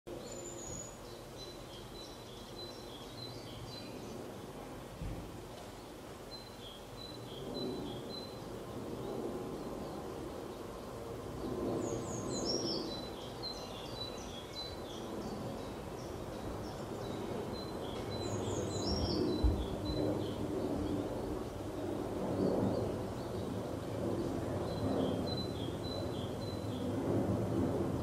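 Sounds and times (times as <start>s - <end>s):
songbirds chirping and singing: 0.1s - 27.1s
low outdoor background noise: 0.1s - 28.0s.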